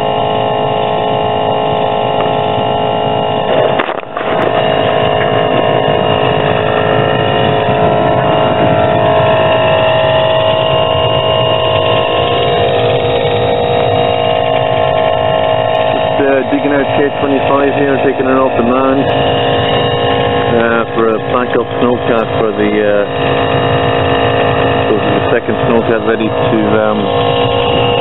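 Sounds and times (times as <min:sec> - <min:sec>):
machine engine drone: 0:00.0 - 0:28.0.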